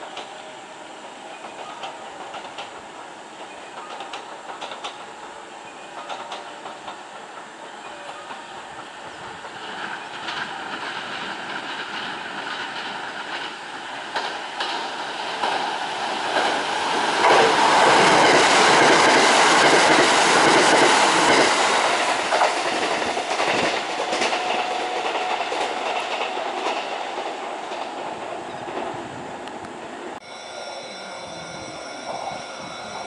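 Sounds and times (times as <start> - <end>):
train wheels clattering on rails: 1.0 - 29.9.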